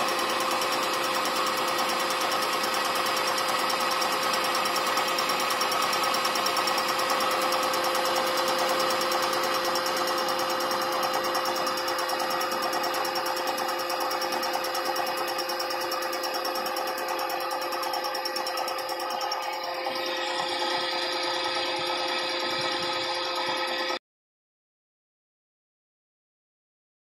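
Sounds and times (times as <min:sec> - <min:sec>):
fast even ticking: 0:00.0 - 0:23.1
milling machine whine: 0:00.0 - 0:24.0.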